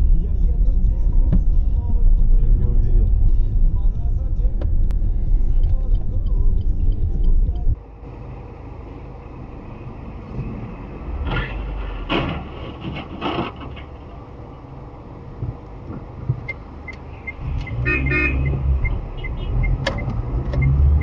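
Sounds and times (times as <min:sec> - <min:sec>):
loud low vehicle rumble: 0:00.0 - 0:21.0
traffic noise: 0:00.0 - 0:21.0.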